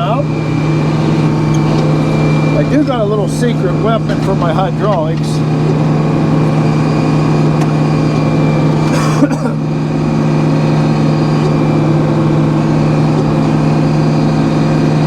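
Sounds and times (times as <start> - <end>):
sawmill engine humming: 0.0 - 15.0.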